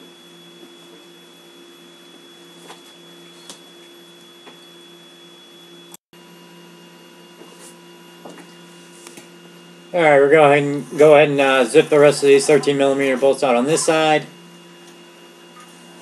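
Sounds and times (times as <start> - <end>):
faint electrical hum with whine: 0.0 - 16.0.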